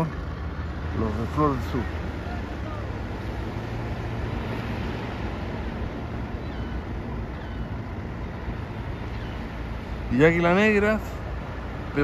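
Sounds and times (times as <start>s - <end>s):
low engine hum: 0.0s - 12.0s
surf: 0.0s - 12.0s
wind: 0.0s - 12.0s.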